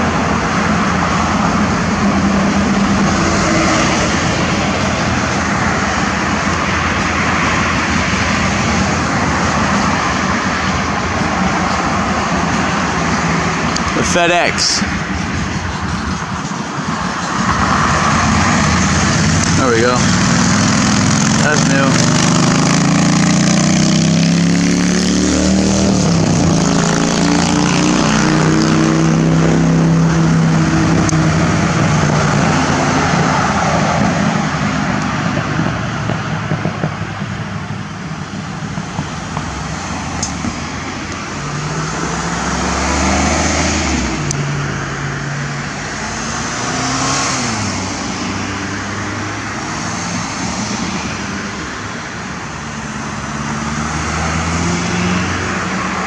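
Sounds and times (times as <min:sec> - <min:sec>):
car engine: 0:00.0 - 0:56.0
road noise inside car: 0:00.0 - 0:56.0.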